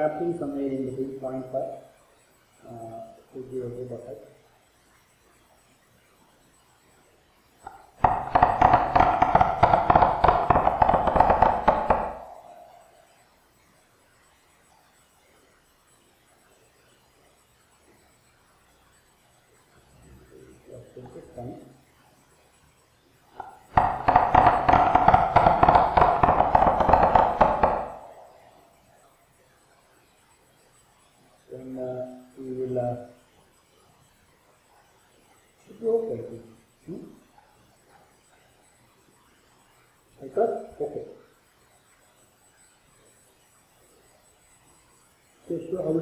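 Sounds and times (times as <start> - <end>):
ringing hum: 0.0 - 46.0.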